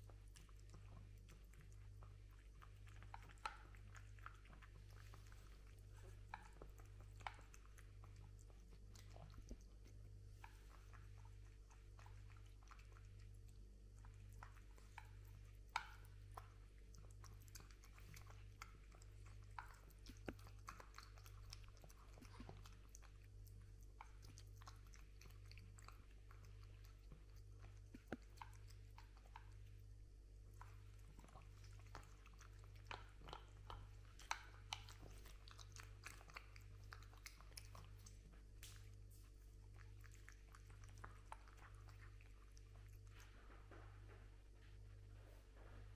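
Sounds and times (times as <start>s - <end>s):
cat crunching food: 0.0s - 44.9s
steady low hum: 0.0s - 45.9s.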